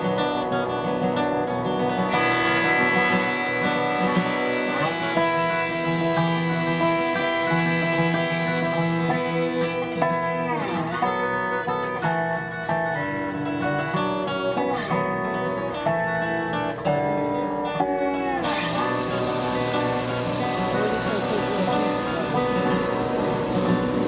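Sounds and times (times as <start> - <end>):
resonator guitar bluegrass tune: 0.0 - 24.0.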